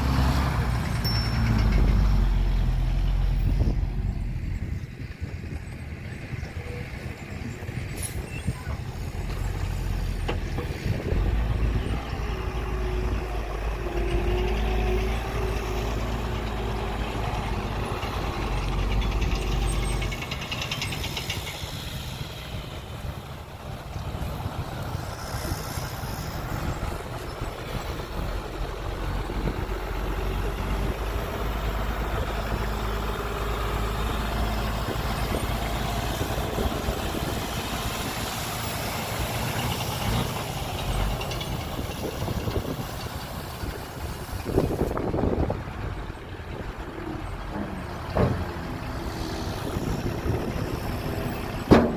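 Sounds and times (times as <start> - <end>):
heavy truck engine rumbling: 0.0 - 51.9.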